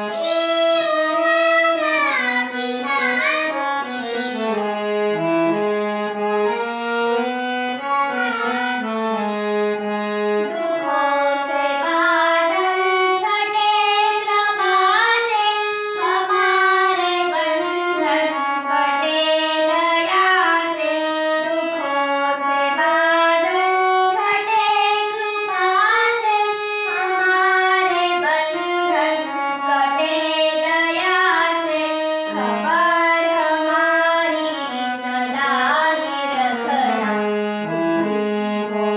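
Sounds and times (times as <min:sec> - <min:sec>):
girl singing: 0:00.0 - 0:04.7, 0:10.4 - 0:37.4
musical accompaniment: 0:00.0 - 0:38.9.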